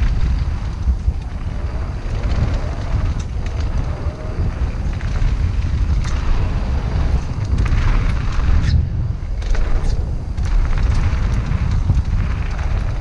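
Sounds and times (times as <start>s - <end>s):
stones and bike rattling: 0.0s - 13.0s
tyres rolling on gravel: 0.0s - 13.0s
wind buffeting microphone: 0.0s - 13.0s.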